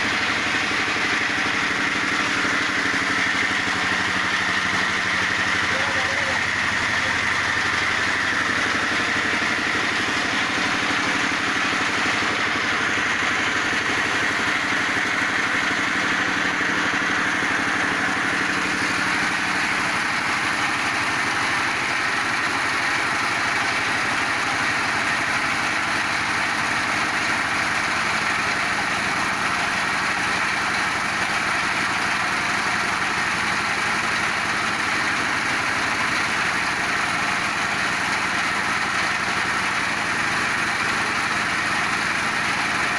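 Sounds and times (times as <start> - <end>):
pellet machine droning: 0.0 - 42.9.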